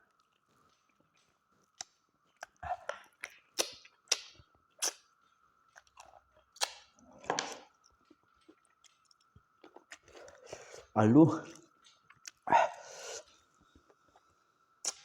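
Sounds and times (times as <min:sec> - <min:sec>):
person chewing with open mouth: 0:00.0 - 0:15.0.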